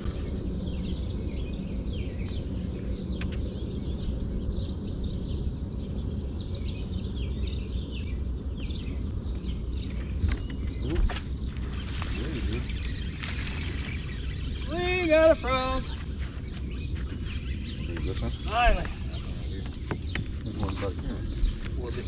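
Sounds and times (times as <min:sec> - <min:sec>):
birds chirping and calling: 0:00.0 - 0:22.0
steady low rumble: 0:00.0 - 0:22.0.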